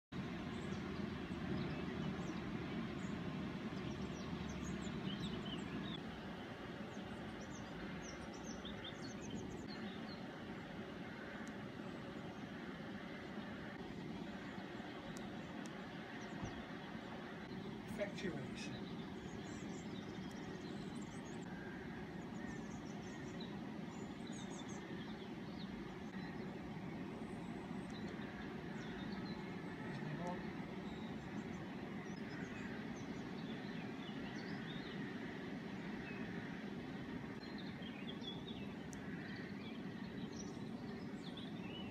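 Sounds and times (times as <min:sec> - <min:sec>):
small birds chirping: 0:00.2 - 0:41.9.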